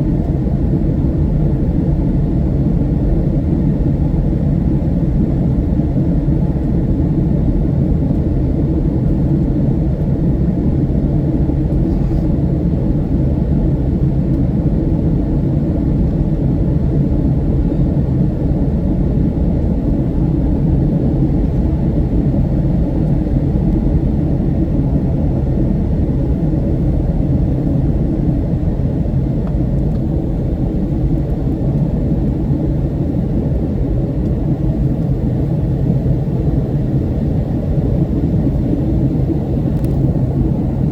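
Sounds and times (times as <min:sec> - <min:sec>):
airliner engines and airflow rumble: 0:00.0 - 0:40.9.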